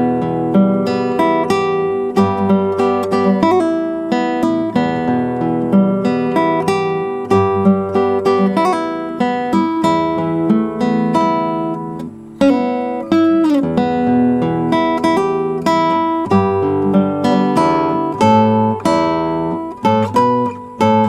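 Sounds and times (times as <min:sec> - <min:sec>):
classical guitar melody: 0:00.0 - 0:21.0.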